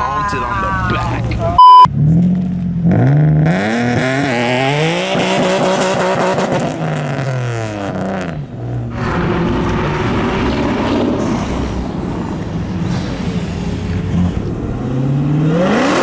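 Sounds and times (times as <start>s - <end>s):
car engine revving: 0.7s - 16.0s.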